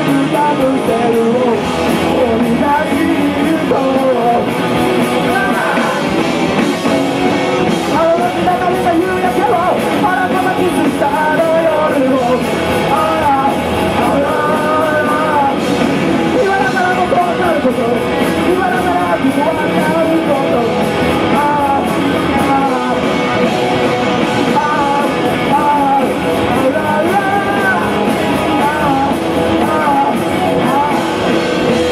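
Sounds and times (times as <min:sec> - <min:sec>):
lead vocal singing: 0:00.0 - 0:31.9
punk rock band playing: 0:00.0 - 0:31.9.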